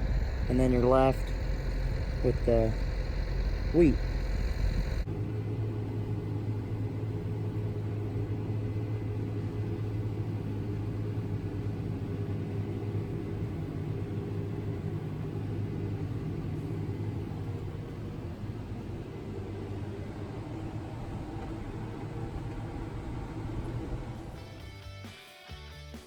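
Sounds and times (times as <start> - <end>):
engine running: 0.0 - 24.9.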